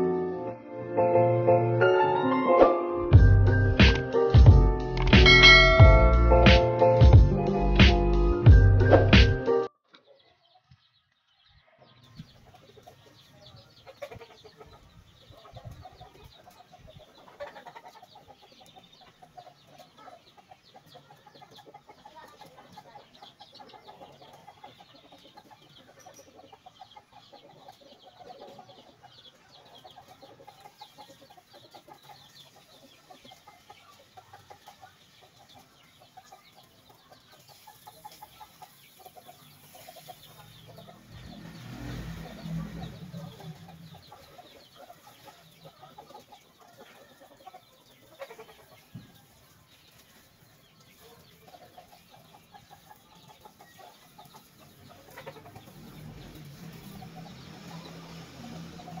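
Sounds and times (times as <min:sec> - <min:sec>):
chickens clucking: 0:07.7 - 0:59.0.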